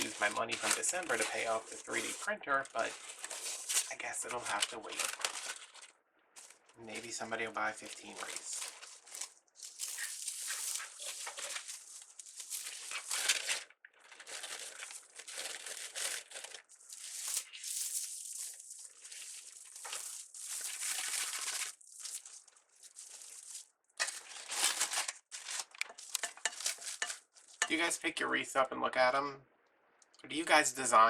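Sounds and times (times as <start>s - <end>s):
mesh and ribbon crinkling: 0.0s - 27.8s.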